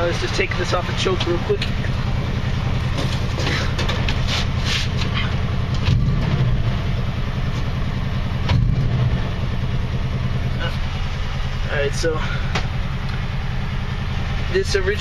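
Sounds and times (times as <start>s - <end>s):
vee-eight engine idling: 0.0s - 15.0s.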